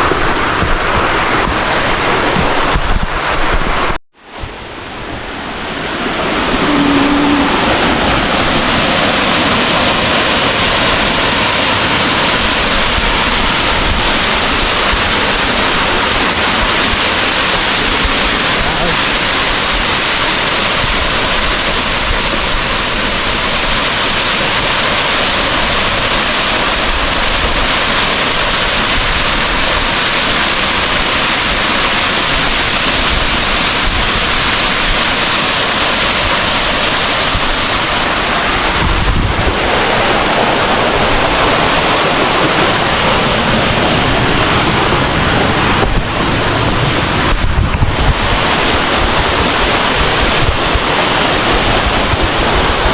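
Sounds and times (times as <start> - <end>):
wind buffeting microphone: 0.0 - 30.1, 32.3 - 52.9
waterfall rushing: 0.0 - 52.9.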